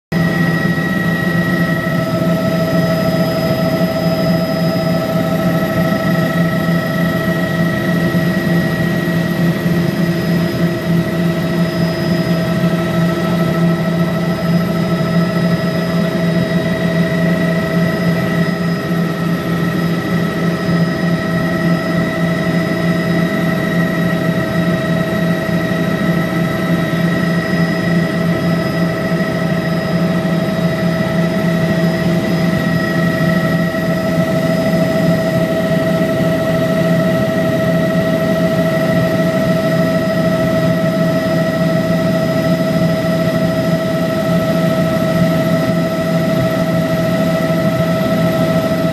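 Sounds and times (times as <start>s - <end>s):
helicopter engine and rotor drone: 0.1s - 48.9s
constant high tones: 0.2s - 48.9s.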